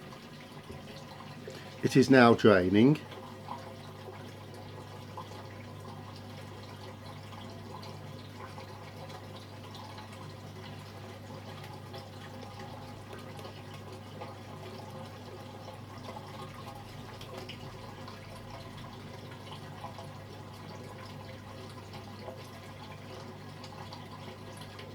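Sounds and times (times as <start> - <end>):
washing machine drain pump humming: 0.0 - 24.9
water trickling and gurgling: 0.0 - 24.9.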